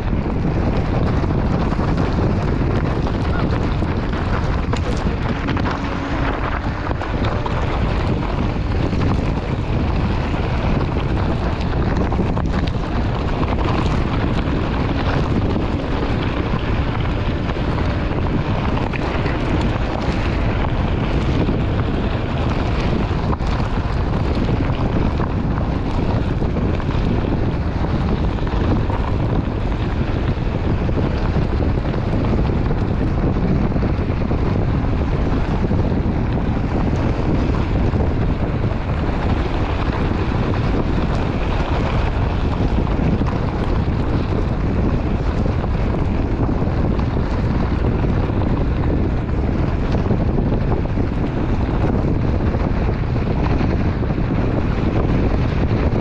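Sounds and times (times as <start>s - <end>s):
wind buffeting microphone: 0.0s - 56.0s
tyre rolling over gravel: 0.1s - 50.2s.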